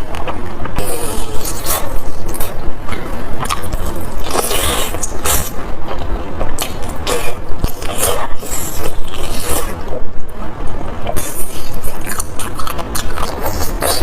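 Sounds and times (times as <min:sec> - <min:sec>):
wet slurping and chewing: 0:00.0 - 0:14.0.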